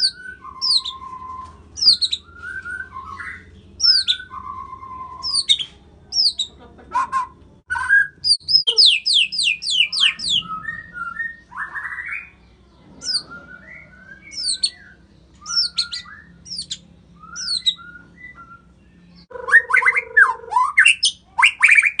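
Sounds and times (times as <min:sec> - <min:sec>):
bird singing whistles and chirps: 0:00.0 - 0:06.5, 0:07.1 - 0:22.0.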